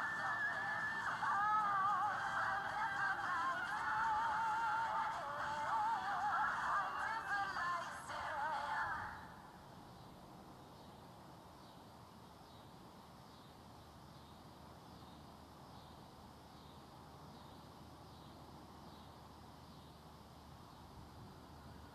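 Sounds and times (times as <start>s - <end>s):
high insect chorus: 0.0s - 21.9s.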